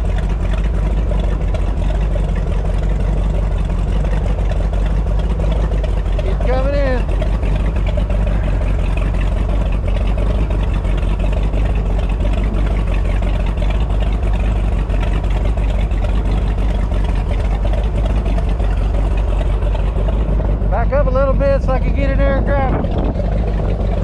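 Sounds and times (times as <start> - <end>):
boat engine droning: 0.0 - 24.0
rushing water: 0.0 - 24.0
wind: 0.0 - 24.0.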